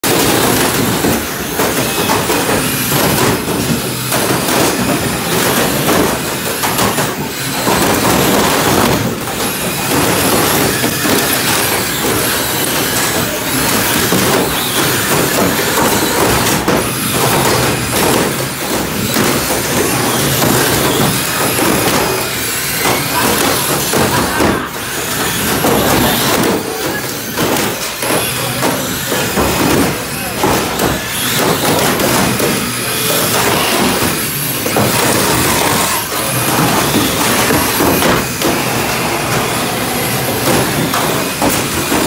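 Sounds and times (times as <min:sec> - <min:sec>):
plastic cars colliding: 0:00.0 - 0:42.0
toy cars driving on wood: 0:00.0 - 0:42.0.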